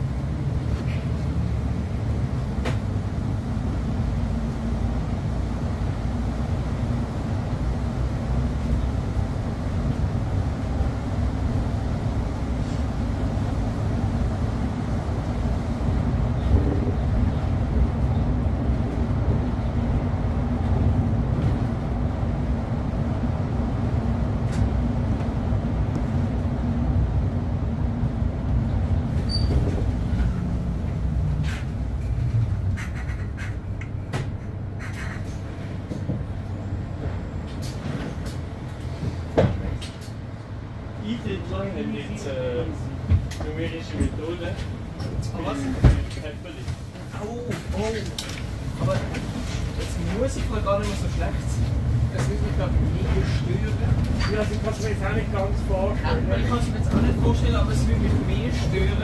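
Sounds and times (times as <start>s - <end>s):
bus rumble from inside: 0.0s - 59.0s.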